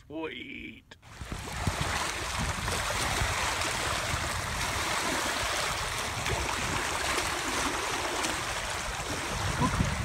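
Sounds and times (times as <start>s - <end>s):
water rushing: 1.0s - 10.0s.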